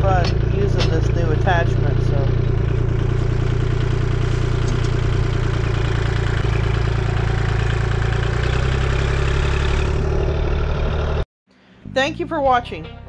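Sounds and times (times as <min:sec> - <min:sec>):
tractor diesel engine running: 0:00.0 - 0:11.2.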